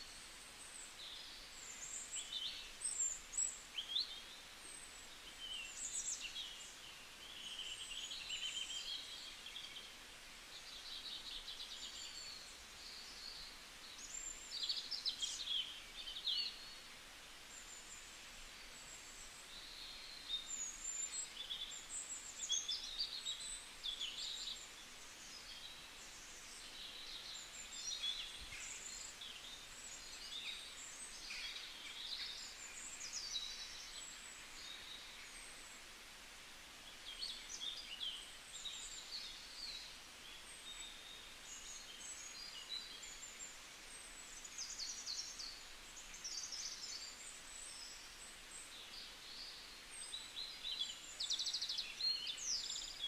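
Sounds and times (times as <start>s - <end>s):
faint steady hiss: 0.0s - 53.0s
small birds chirping: 0.0s - 53.0s.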